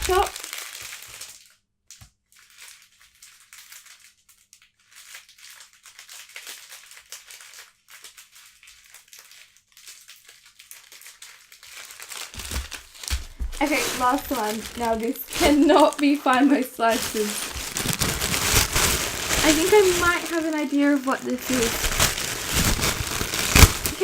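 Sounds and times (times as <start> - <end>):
plastic packets crinkling: 0.0 - 1.6, 2.3 - 24.0.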